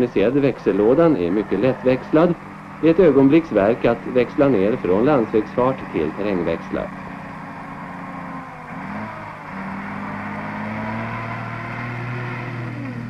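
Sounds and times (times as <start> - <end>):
truck engine under load: 0.0 - 13.0.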